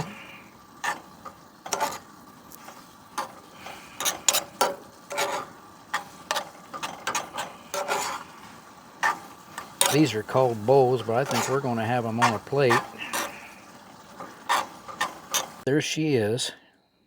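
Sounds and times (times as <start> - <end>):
utensil scraping pan: 0.0 - 15.6.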